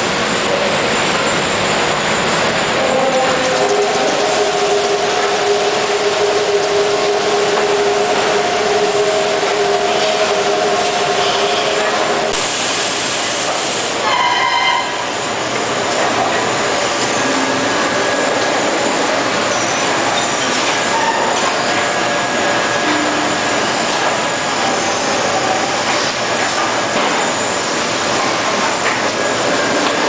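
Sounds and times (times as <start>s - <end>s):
machinery clattering and hissing: 0.0s - 14.2s, 15.0s - 30.0s.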